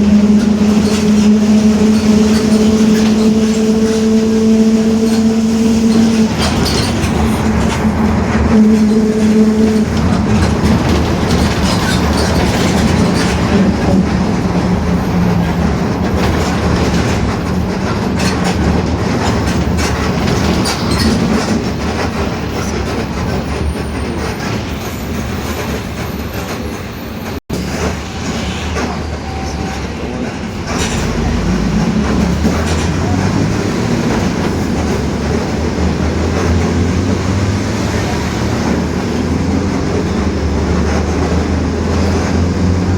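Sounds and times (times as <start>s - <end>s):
bus engine drone: 0.0s - 42.9s
road noise: 0.0s - 42.9s.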